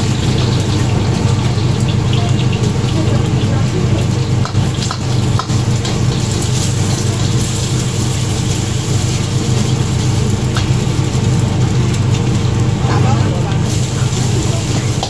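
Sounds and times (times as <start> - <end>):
egg sizzling in hot oil: 0.0 - 15.0
gas burner rumble: 0.0 - 15.0.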